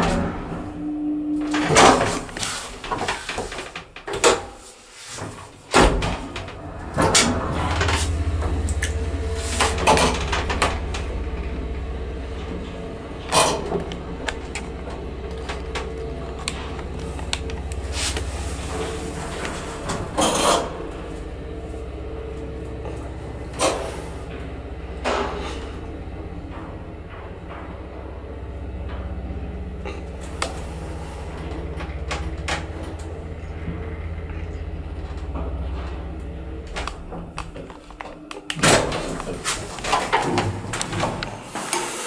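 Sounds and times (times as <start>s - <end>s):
faint whine: 0.0s - 3.4s, 5.7s - 41.4s
elevator clunks and clicks: 0.0s - 4.6s, 5.2s - 42.0s
elevator doors knocking and clattering: 0.0s - 4.6s, 5.2s - 41.7s
elevator hoist motor hum: 0.0s - 42.0s.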